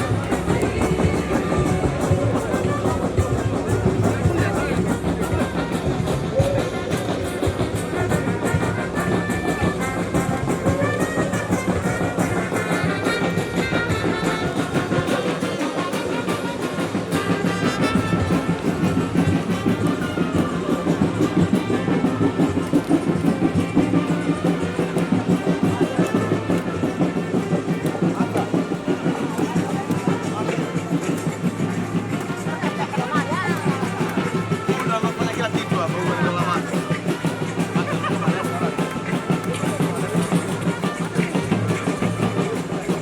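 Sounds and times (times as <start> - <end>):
brass instruments: 0.0 - 43.0
drums: 0.0 - 43.0.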